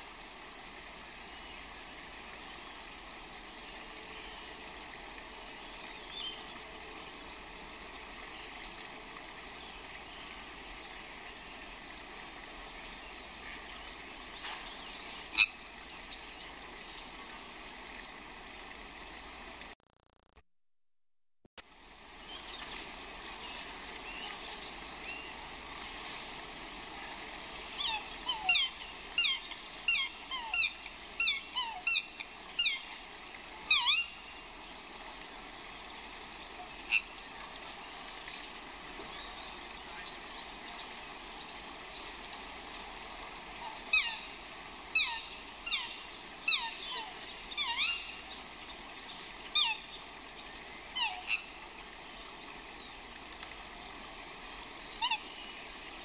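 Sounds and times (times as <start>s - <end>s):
steady hiss: 0.0s - 19.8s, 21.6s - 56.0s.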